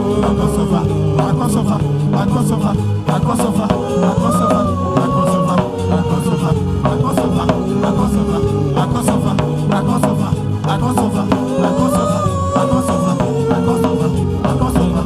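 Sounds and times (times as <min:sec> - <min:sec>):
busy bass line: 0:00.0 - 0:15.0
instrumental worship music: 0:00.0 - 0:15.0
steady drum beat: 0:00.0 - 0:15.0.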